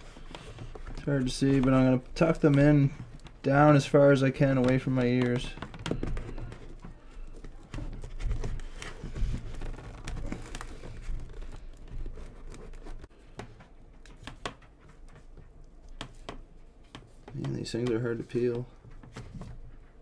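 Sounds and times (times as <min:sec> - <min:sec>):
rustling of foam and fabric: 0:00.0 - 0:20.0.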